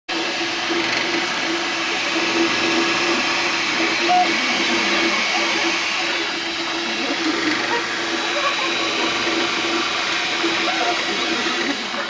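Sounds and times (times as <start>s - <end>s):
cooling fan whirring: 0.1s - 12.0s
printer motor hum: 0.1s - 12.0s.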